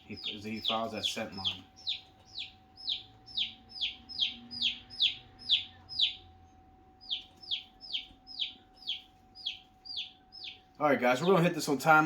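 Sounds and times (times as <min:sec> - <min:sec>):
chick peeping: 0:00.0 - 0:11.4
faint steady hum: 0:00.0 - 0:12.0.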